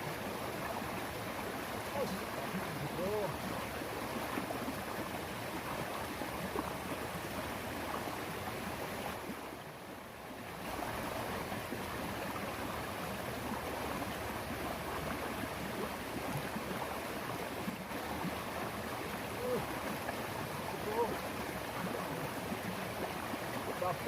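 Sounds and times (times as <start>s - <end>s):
river water flowing over rocks: 0.0s - 24.0s.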